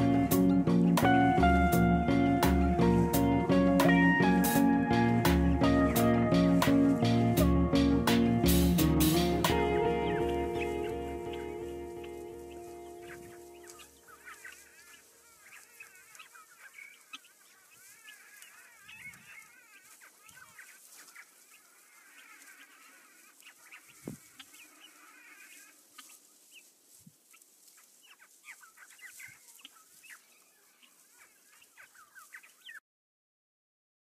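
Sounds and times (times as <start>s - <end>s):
eagles chattering calls: 0.0s - 26.7s, 27.3s - 32.8s.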